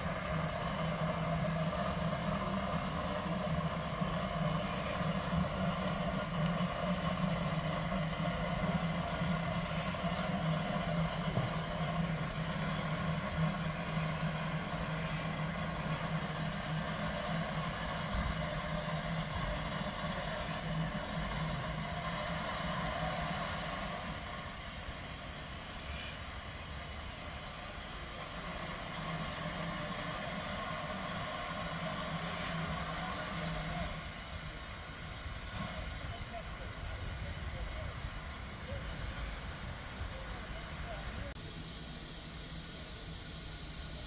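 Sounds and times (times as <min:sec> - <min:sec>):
engine humming with hiss: 0:00.0 - 0:44.0.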